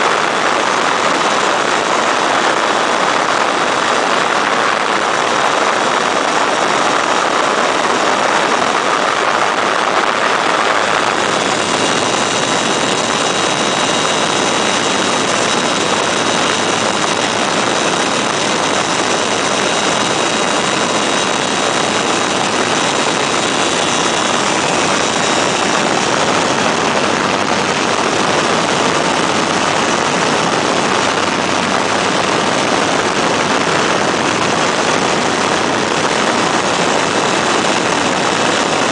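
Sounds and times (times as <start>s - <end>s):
aircraft engine and propeller: 0.0s - 38.9s
faint high whine: 0.0s - 38.9s.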